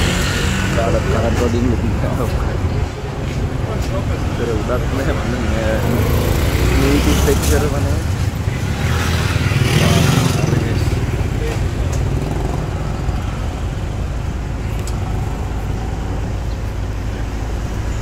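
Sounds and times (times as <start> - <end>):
motorcycles passing: 0.0 - 18.0
street traffic rumble: 0.0 - 18.0
voices: 0.0 - 18.0.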